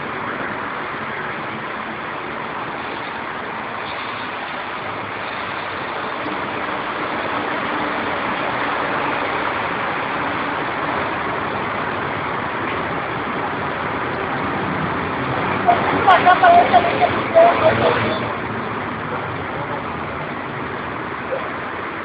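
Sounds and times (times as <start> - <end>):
train rushing alongside platform: 0.0 - 22.0.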